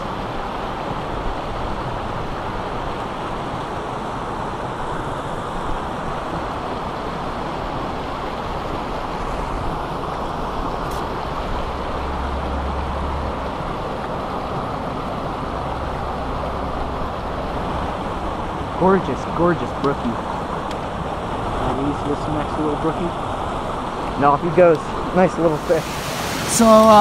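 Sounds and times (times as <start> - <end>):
mountain creek rushing: 0.0 - 27.0.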